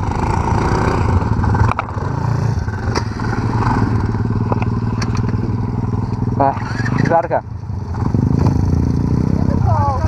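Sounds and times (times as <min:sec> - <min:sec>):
small engine running at low revs: 0:00.0 - 0:10.0.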